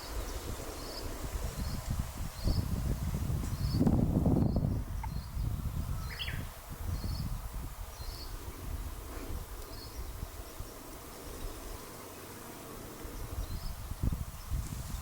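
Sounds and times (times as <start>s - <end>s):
wind rumble on microphone: 0.0s - 11.8s, 13.0s - 15.0s.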